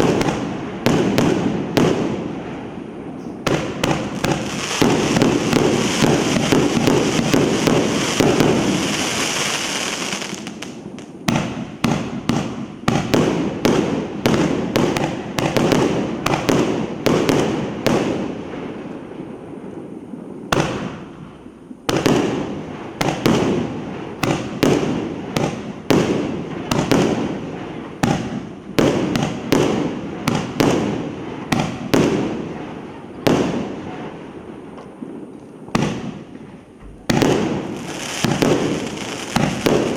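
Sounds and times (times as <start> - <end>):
firework bangs: 0.0 - 39.9
firework crackle: 0.0 - 39.9.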